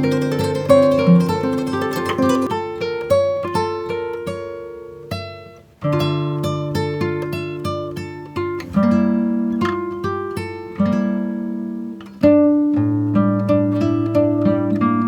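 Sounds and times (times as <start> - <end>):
solo acoustic guitar picking: 0.0 - 15.0.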